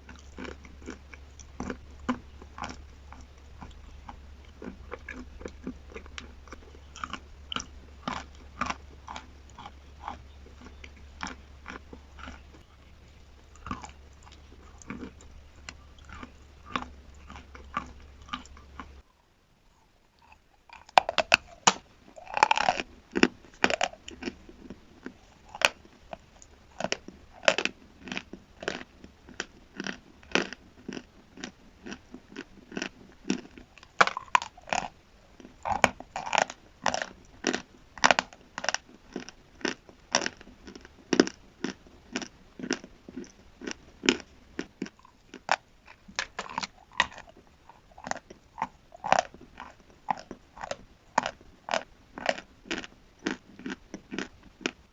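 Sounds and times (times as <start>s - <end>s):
person chewing crunchy chalk: 0.0s - 54.9s.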